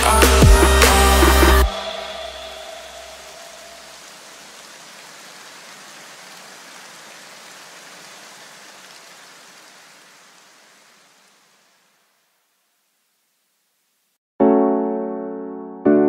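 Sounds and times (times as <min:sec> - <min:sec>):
steady rushing hiss: 0:00.0 - 0:14.2.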